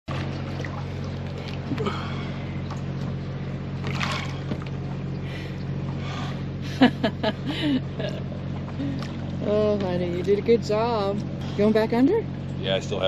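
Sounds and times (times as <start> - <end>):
low engine hum: 0.1 - 13.0.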